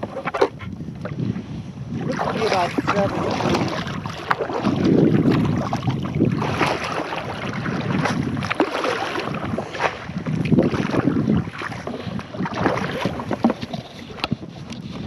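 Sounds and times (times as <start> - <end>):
water sloshing against kayak hull: 0.0 - 15.0
wind buffeting microphone: 0.0 - 15.0.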